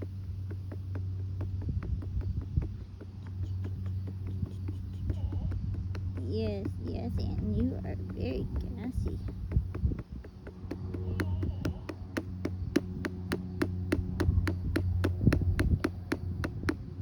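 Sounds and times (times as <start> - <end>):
hand patting doll's back: 0.0 - 17.0
low steady hum: 0.0 - 17.0.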